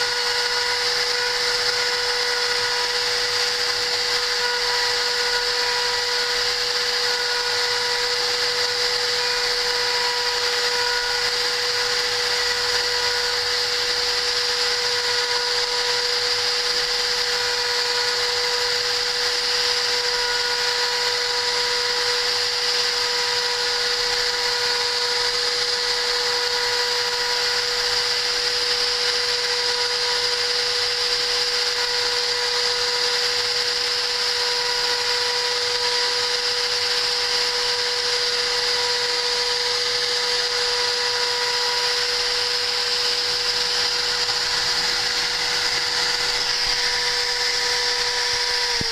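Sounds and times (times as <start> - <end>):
spindle motor whine: 0.0 - 48.9.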